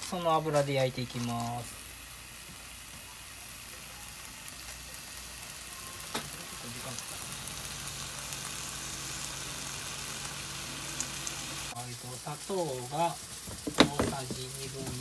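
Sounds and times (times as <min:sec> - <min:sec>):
chicken sizzling in frying pan: 0:00.0 - 0:15.0.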